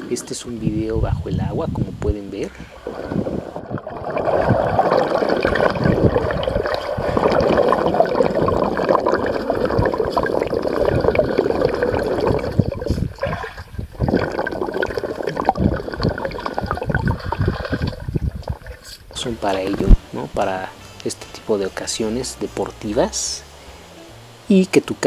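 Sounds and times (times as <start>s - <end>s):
muffled underwater gurgling: 0.0s - 20.3s.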